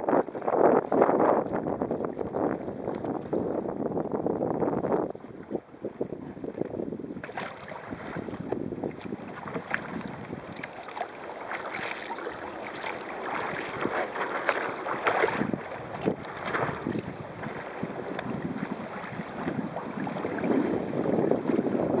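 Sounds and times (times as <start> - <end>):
water splashing against wooden hull: 0.0 - 22.0
wind buffeting microphone: 0.0 - 22.0.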